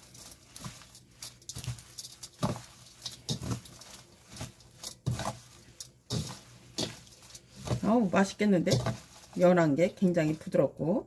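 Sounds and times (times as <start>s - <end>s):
hands patting leaves: 0.0s - 10.6s
lettuce leaves rustling: 0.0s - 10.7s.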